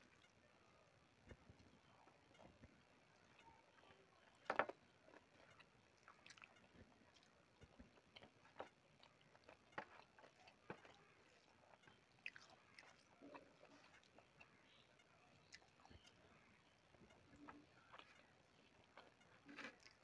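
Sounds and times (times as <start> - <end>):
person chewing food: 1.4 - 20.0.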